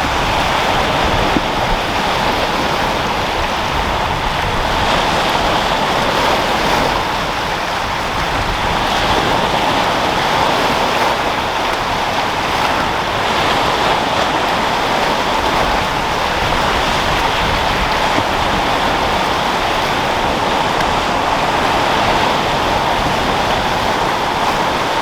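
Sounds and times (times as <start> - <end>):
sea waves breaking: 0.0 - 25.0
wind: 0.0 - 25.0.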